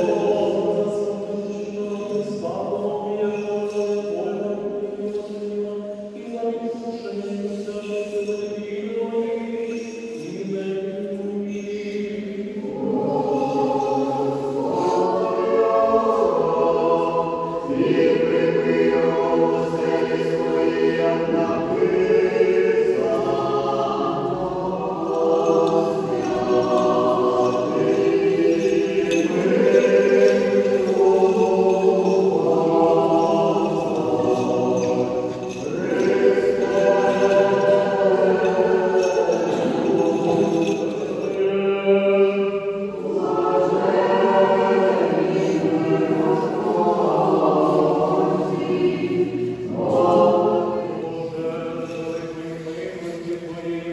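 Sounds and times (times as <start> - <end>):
slow choral singing: 0.0 - 53.9.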